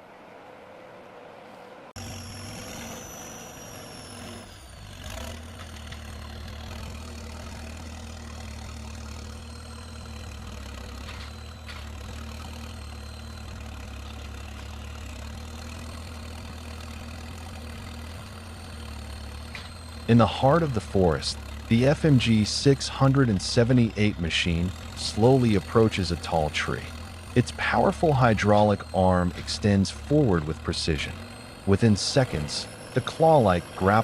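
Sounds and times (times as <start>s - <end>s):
diesel engine running: 1.9s - 34.0s.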